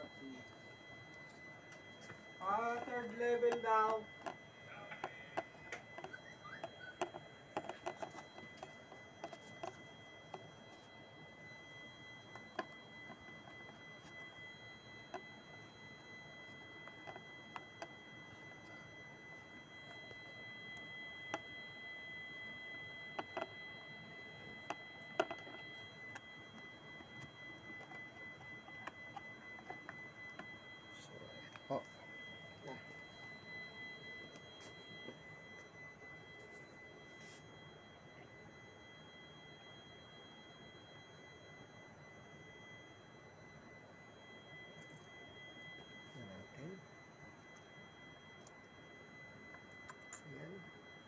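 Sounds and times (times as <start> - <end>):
steady high-pitched tone: 0.0 - 51.0.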